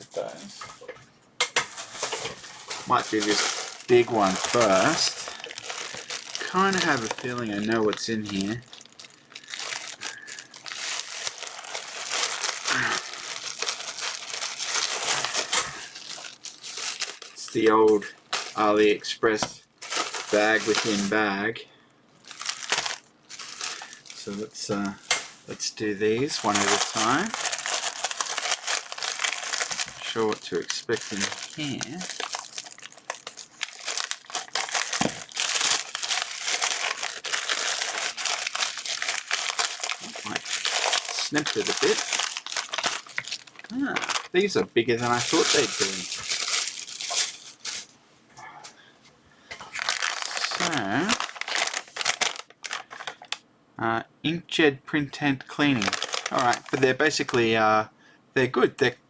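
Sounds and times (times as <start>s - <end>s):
plastic bag crinkling: 1.6s - 19.2s, 19.8s - 21.3s, 22.2s - 48.0s, 49.6s - 53.4s, 55.6s - 57.5s.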